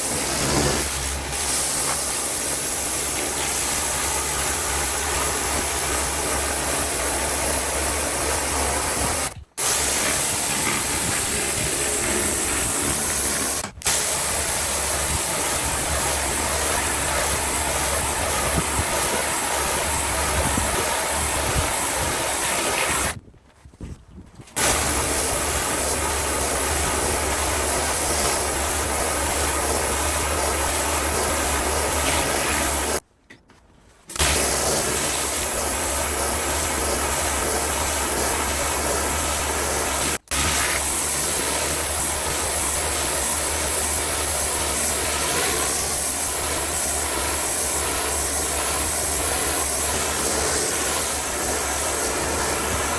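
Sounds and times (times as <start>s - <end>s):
pressure washer water jet hissing: 0.0s - 23.2s, 24.6s - 33.0s, 34.1s - 52.9s.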